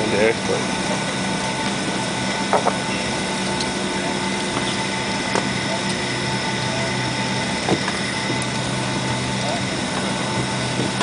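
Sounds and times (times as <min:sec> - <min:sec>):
airplane cabin hum: 0:00.0 - 0:11.0.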